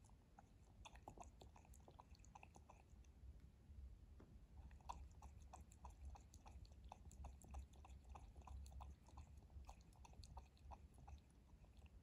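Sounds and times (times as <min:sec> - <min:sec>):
cat lapping water: 0:00.0 - 0:03.2, 0:04.6 - 0:12.0.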